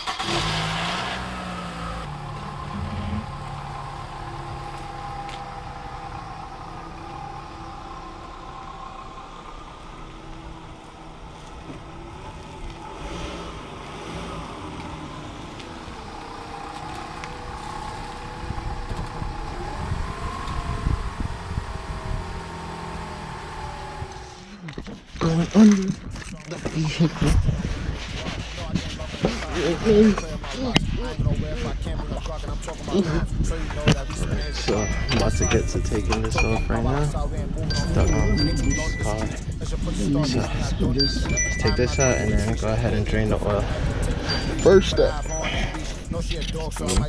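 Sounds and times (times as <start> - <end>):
car engine running: 0.0 - 47.0
low rumbling: 0.0 - 47.0.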